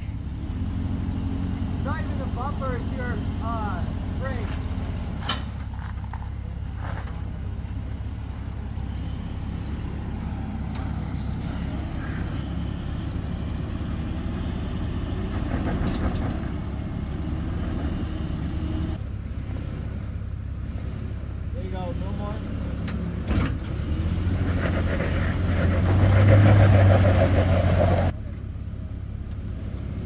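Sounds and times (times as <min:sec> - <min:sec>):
engine low rumble: 0:00.0 - 0:30.0.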